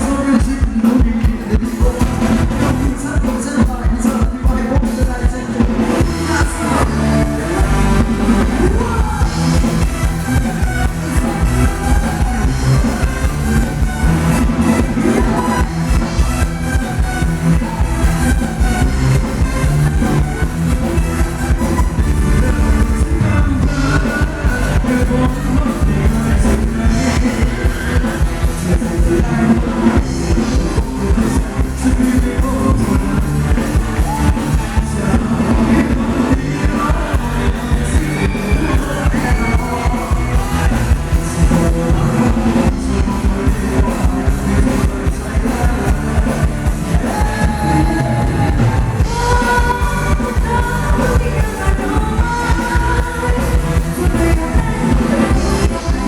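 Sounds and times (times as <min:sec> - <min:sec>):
band music: 0:00.0 - 0:56.0
person singing: 0:00.0 - 0:56.0
steady drum beat: 0:00.0 - 0:56.0.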